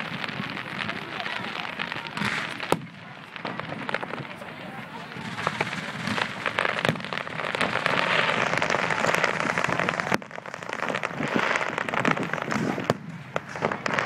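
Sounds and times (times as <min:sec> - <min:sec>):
fireworks crackling: 0:00.0 - 0:14.0.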